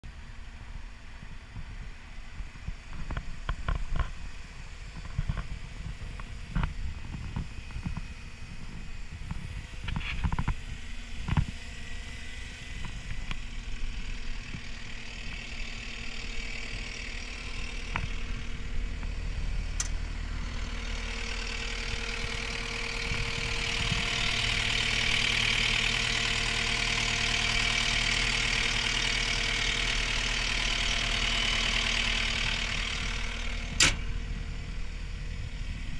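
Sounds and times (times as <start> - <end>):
diesel engine running: 0.1 - 35.9.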